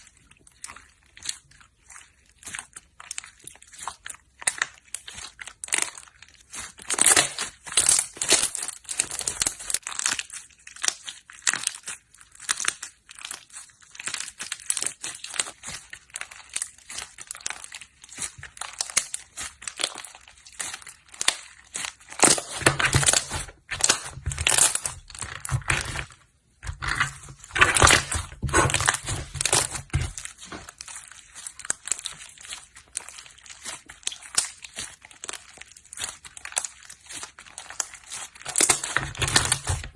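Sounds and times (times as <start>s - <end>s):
slime squished by hand: 0.0s - 39.9s.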